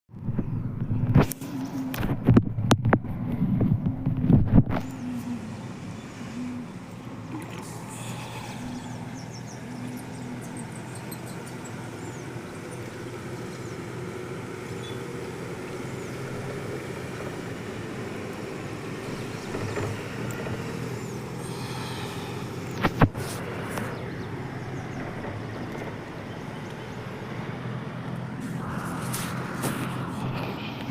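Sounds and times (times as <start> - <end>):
motor humming: 4.2 - 30.8.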